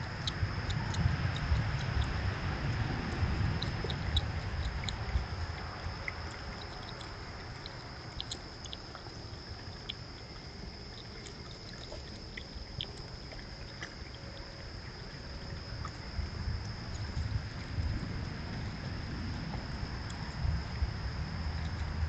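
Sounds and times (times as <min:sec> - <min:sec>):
low rumble: 0:00.0 - 0:10.6, 0:12.6 - 0:22.0
animals foraging in birdseed: 0:00.0 - 0:22.0.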